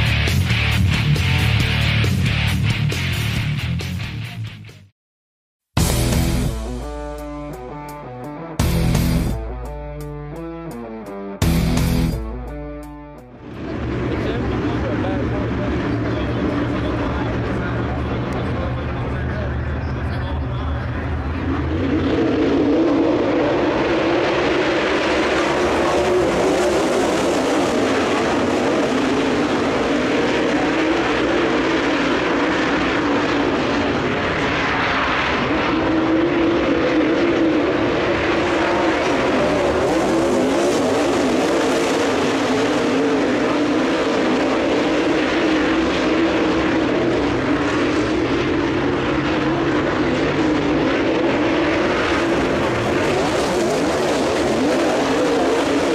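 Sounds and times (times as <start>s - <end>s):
race car engines droning: 5.8s - 55.9s.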